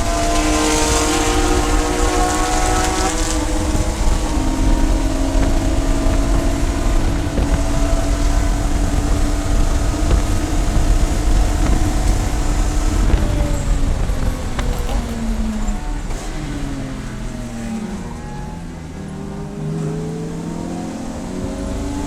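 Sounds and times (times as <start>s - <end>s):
race car engine: 0.0s - 22.0s.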